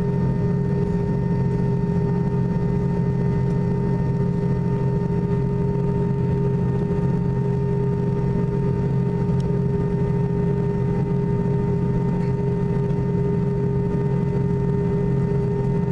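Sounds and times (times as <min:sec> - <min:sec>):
jet engines humming: 0:00.0 - 0:15.9
low cabin rumble: 0:00.0 - 0:15.9.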